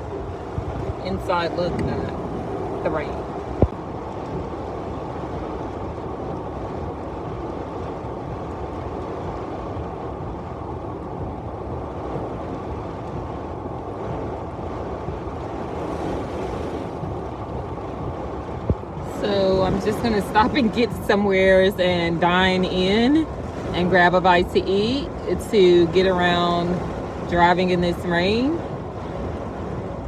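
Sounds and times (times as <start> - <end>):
heavy rain on car: 0.0 - 30.0.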